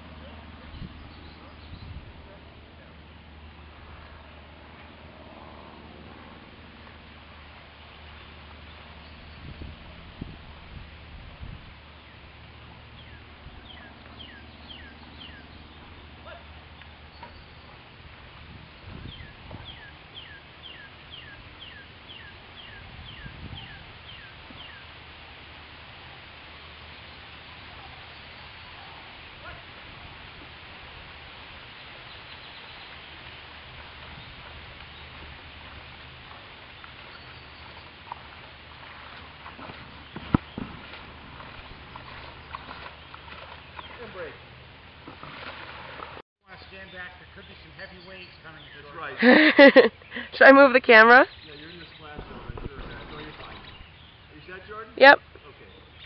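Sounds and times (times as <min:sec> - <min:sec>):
canoe paddles splashing: 0:00.0 - 0:46.2, 0:51.8 - 0:55.1
outdoor background hiss: 0:00.0 - 0:56.0.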